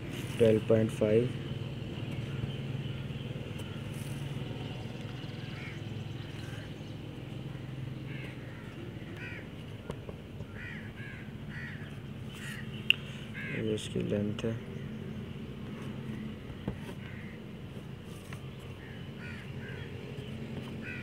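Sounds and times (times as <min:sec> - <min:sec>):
steady low hum: 0:00.0 - 0:21.0
birds cawing: 0:00.9 - 0:21.0.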